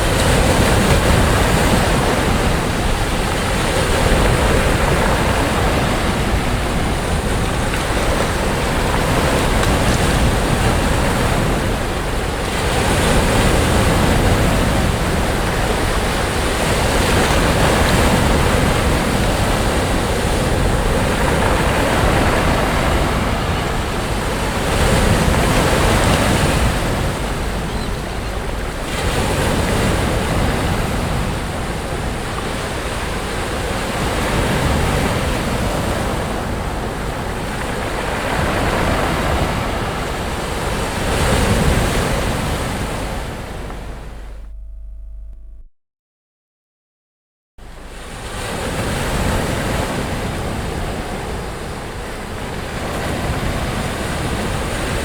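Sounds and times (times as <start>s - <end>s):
sea waves breaking on beach: 0.0s - 44.4s, 47.7s - 55.0s.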